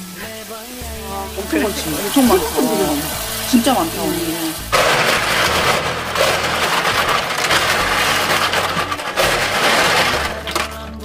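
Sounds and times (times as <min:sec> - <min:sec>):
shells clattering in a bowl: 0:01.6 - 0:10.9.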